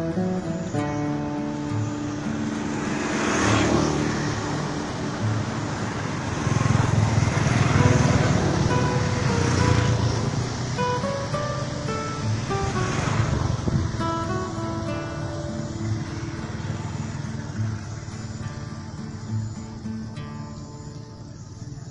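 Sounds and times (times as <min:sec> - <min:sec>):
quiet acoustic guitar music: 0:00.0 - 0:21.9
traffic rumble: 0:00.0 - 0:21.9.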